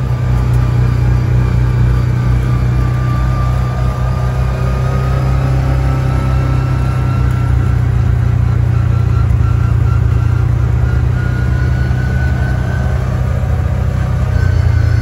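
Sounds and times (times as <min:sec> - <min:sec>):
faint high whine: 0:00.0 - 0:15.0
vehicle engine running: 0:00.0 - 0:15.0.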